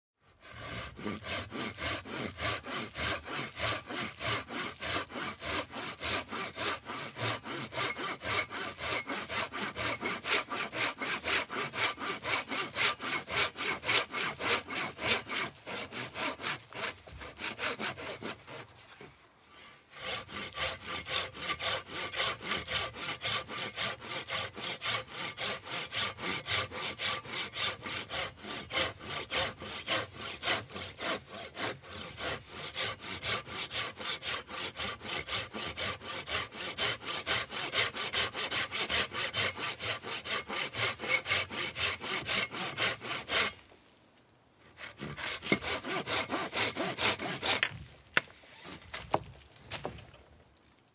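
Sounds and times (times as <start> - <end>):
handsaw cutting wood: 0.2 - 43.6, 44.7 - 47.7, 48.5 - 49.1.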